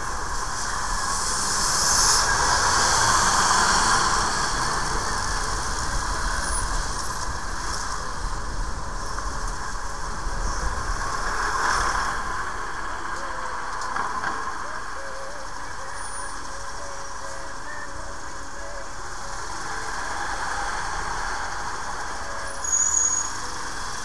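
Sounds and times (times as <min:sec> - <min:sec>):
wind hiss: 0:00.0 - 0:24.0.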